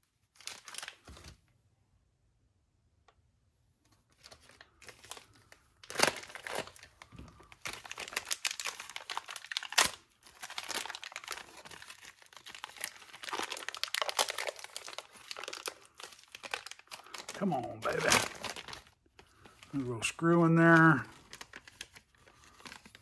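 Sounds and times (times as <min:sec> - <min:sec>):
plastic bag crinkling: 0:00.3 - 0:01.4, 0:04.1 - 0:23.0.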